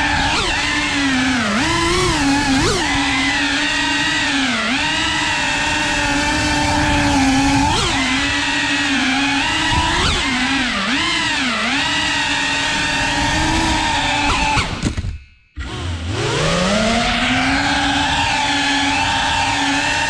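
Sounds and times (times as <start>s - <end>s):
drone motors buzzing: 0.0s - 20.0s.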